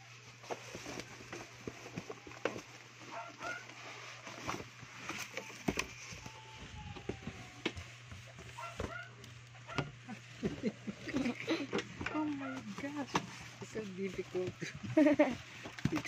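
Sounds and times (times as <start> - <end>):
plastic wrap crinkling: 0.2 - 16.0.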